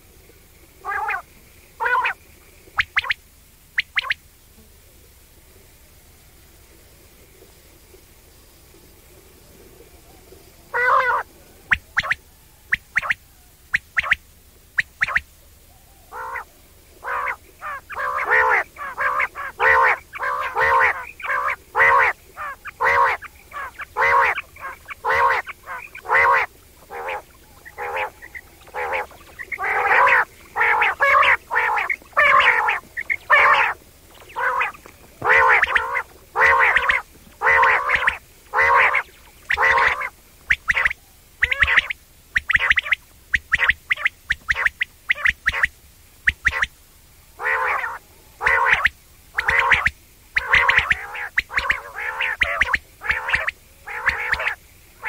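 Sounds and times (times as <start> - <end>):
quail calling: 0.8 - 2.2, 2.8 - 3.2, 3.8 - 4.2, 10.7 - 14.2, 14.8 - 46.8, 47.4 - 55.0.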